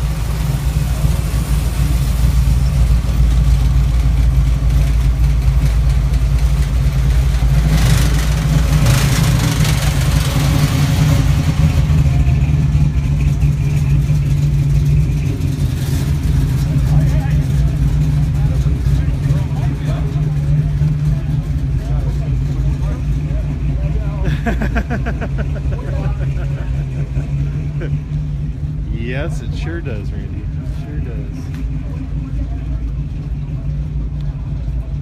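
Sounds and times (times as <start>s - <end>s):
car engine rumbling: 0.0s - 35.0s.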